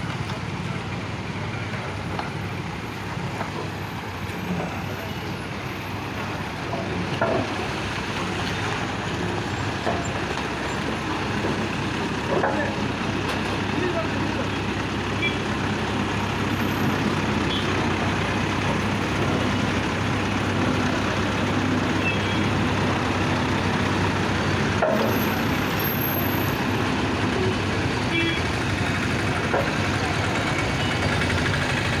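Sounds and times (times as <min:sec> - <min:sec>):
road roller diesel engine: 0:00.0 - 0:32.0.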